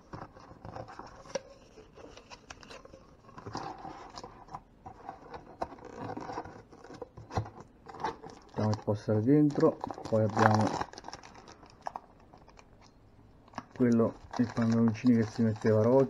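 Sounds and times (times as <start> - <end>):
paper and plastic rustling: 0.0 - 16.0.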